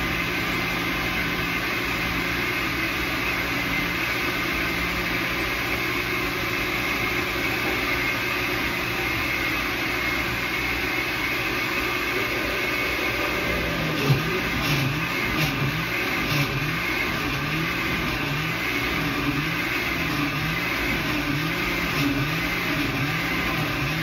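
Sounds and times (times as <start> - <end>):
electric blender running: 0.0 - 24.0.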